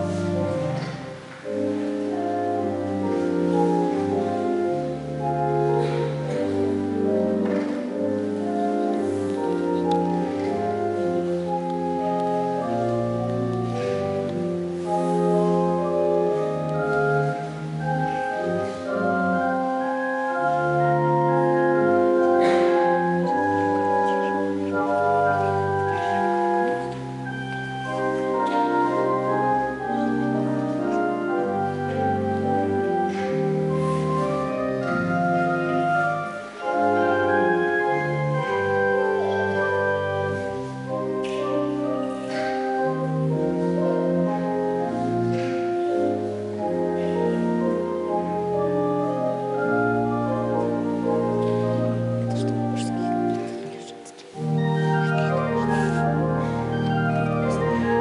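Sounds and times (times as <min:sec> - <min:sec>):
organ playing chords: 0:00.0 - 0:58.0.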